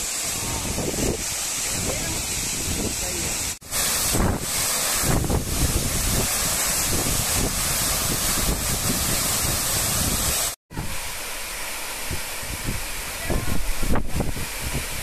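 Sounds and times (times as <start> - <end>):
waterfall rushing onto rocks: 0.0 - 15.0
wind buffeting microphone: 0.3 - 11.0, 12.1 - 15.0.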